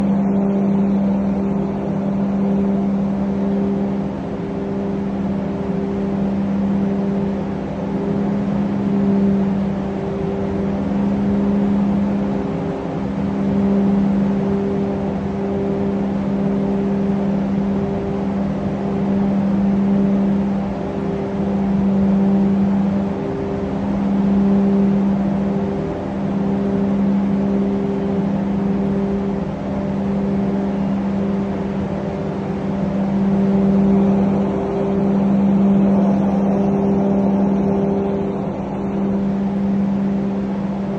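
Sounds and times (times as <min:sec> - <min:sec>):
low machinery drone: 0:00.0 - 0:40.9
pulsing high tone: 0:00.0 - 0:40.9.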